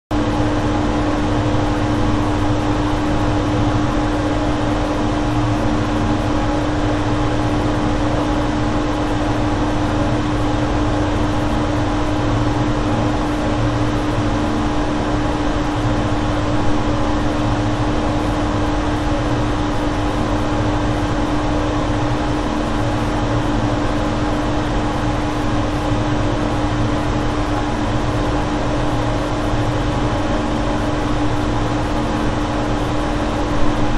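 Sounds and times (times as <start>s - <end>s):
machinery low hum: 0.2s - 33.9s.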